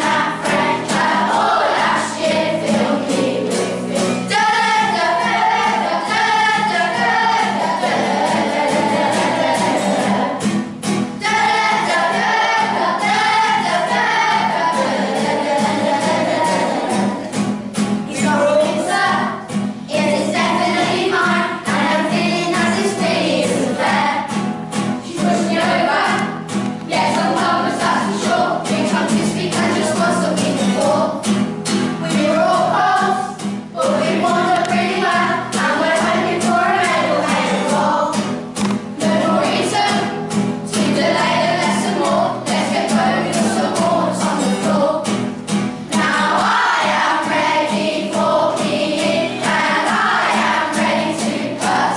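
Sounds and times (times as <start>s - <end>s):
children's choir singing: 0.0s - 51.9s
instrumental accompaniment: 0.0s - 51.9s.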